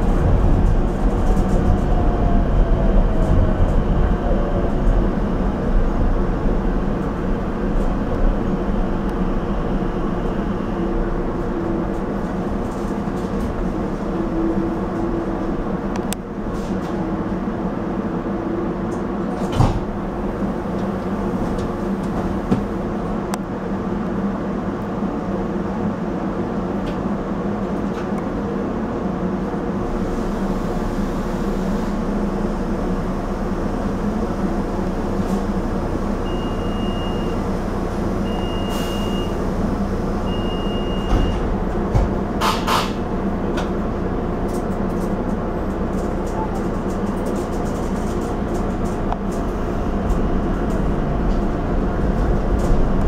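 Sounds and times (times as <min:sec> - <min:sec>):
train equipment humming: 0:00.0 - 0:53.0.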